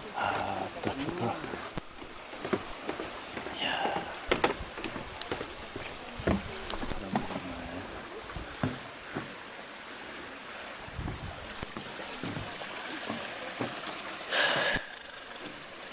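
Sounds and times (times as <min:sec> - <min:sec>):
stream trickling over rocks: 0:00.0 - 0:15.9
footsteps on wooden boardwalk: 0:00.1 - 0:09.6, 0:10.9 - 0:14.0, 0:15.3 - 0:15.9.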